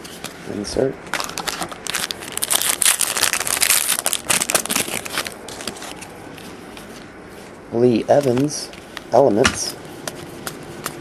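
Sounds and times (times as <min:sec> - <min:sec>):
trading cards rustling and clicking: 0:01.1 - 0:07.0, 0:08.1 - 0:11.0.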